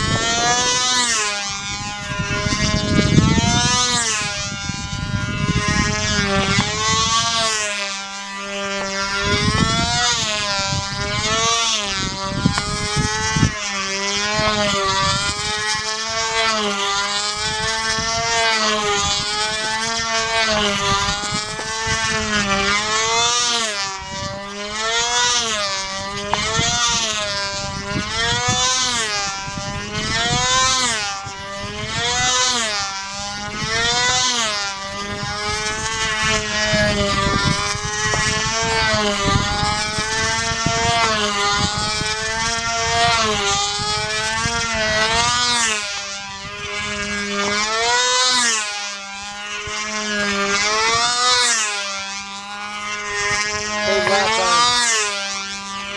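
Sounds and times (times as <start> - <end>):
model plane engine whining: 0.0 - 55.9.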